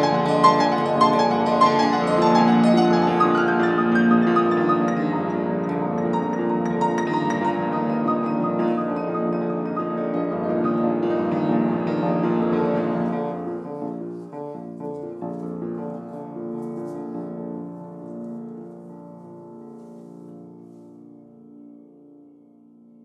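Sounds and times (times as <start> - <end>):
piano chords and runs: 0.0 - 19.6.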